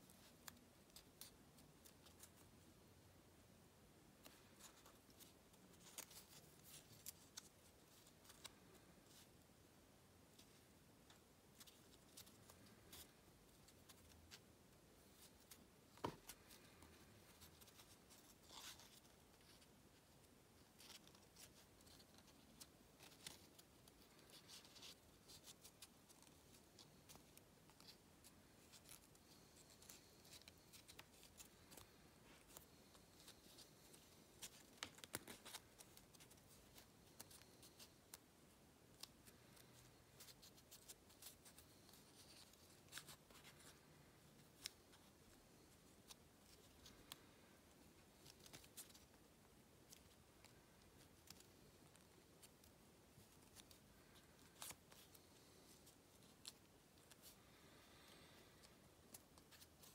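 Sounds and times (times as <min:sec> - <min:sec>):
paper crinkling while folded: 0:04.2 - 0:09.4, 0:15.0 - 0:38.2, 0:38.9 - 0:59.9.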